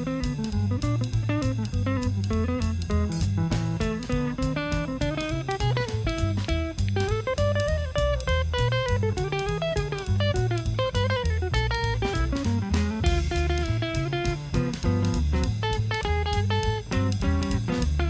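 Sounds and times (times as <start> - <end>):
bass line: 0.0 - 18.0
drum kit: 0.0 - 18.0.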